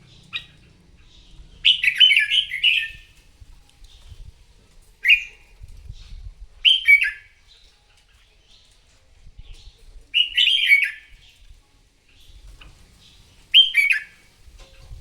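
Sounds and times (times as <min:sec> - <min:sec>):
faint bird chirps: 0:00.0 - 0:03.2, 0:05.0 - 0:11.5, 0:12.2 - 0:14.9.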